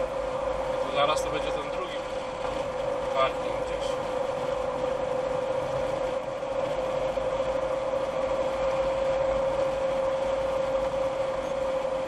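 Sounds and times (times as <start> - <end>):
car engine and tyre noise: 0.0 - 12.0
constant droning hum: 0.0 - 12.0.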